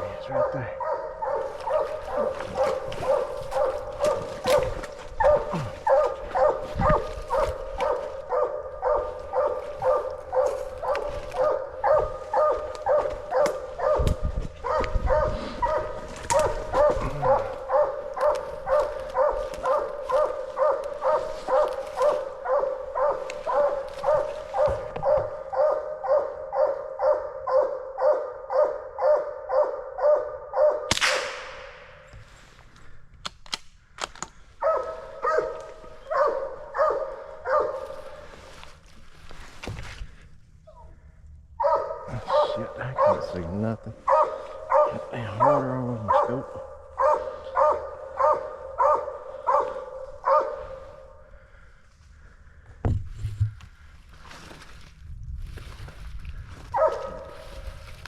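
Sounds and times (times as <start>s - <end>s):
hounds barking: 0.0s - 30.9s, 34.6s - 52.6s, 56.6s - 58.0s.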